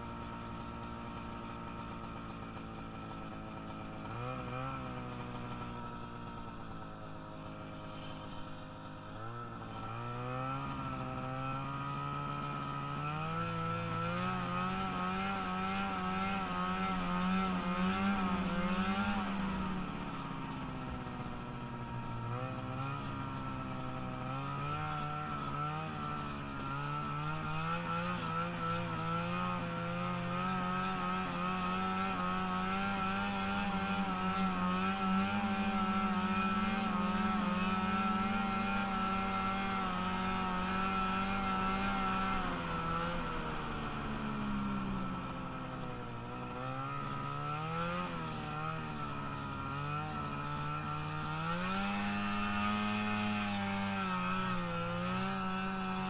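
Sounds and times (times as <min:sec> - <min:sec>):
small vehicle engine accelerating: 0:00.0 - 0:56.0.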